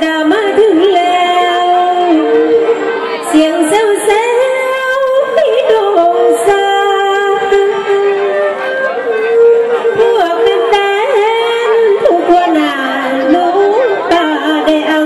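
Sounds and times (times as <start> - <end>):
band accompaniment: 0.0 - 15.0.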